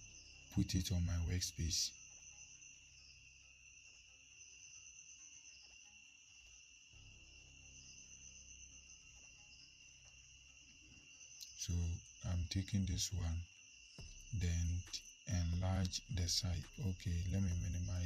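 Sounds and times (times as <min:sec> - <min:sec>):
faint high-pitched whine: 0:00.0 - 0:18.0.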